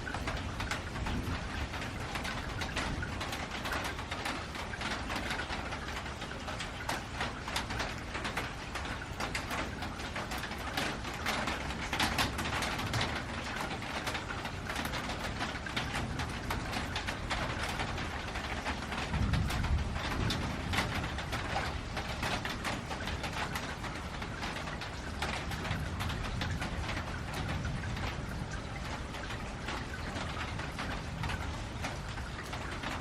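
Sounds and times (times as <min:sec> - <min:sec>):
rain on a metal roof: 0:00.0 - 0:33.0.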